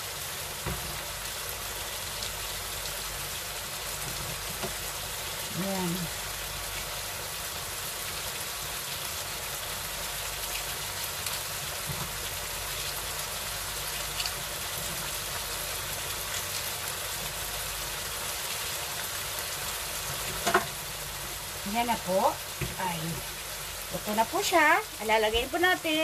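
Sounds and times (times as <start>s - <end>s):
beef sizzling in a frying pan: 0.0s - 26.0s.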